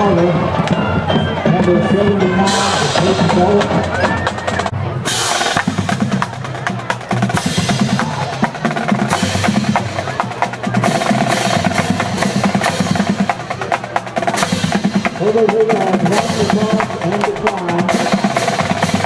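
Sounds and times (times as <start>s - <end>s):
drumline playing a cadence: 2.4s - 19.0s
rapid snare drum strikes: 2.6s - 19.0s.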